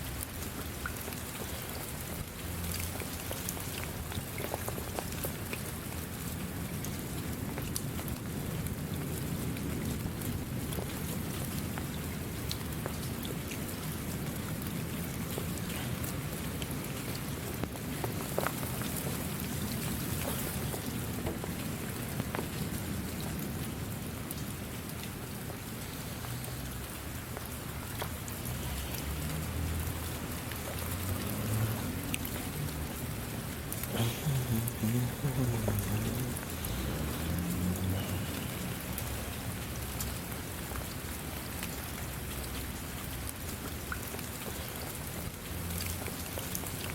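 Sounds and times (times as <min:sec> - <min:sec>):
sharp ticks of raindrops: 0:00.0 - 0:46.9
steady rain falling: 0:00.0 - 0:46.9.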